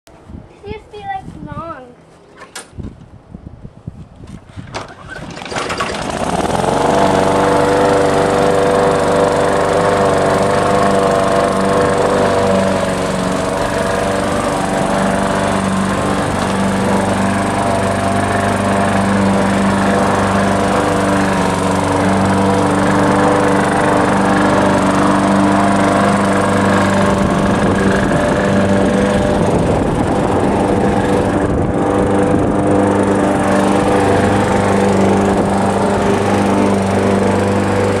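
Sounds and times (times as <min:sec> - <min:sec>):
lawn mower engine running: 0:04.8 - 0:38.0.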